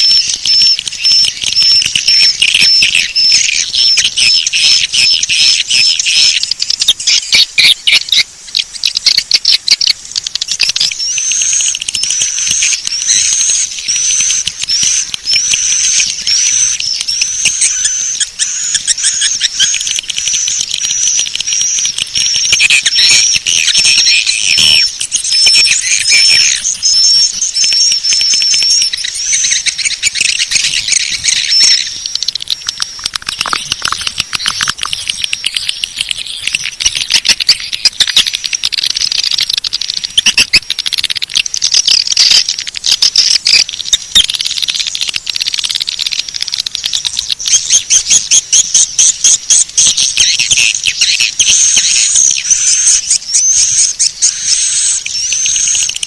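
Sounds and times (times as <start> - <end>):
high-pitched twittering chirps: 0.0 - 56.0
rapid clicks: 0.0 - 56.0.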